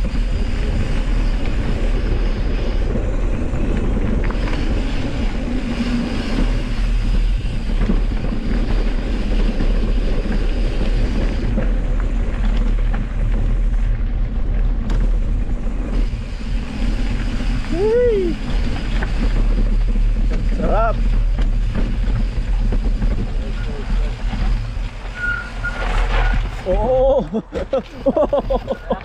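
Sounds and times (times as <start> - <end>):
wind rushing over microphone: 0.0 - 27.0
bike tyres rumbling on dirt: 0.0 - 29.0.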